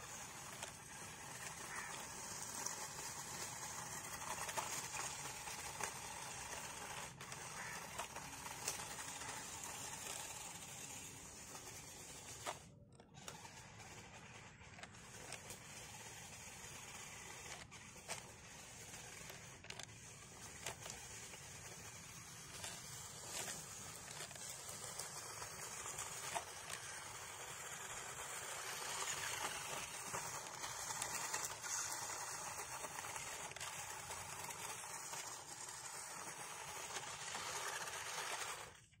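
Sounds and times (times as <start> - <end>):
rc car motor whirring: 0.0 - 39.0.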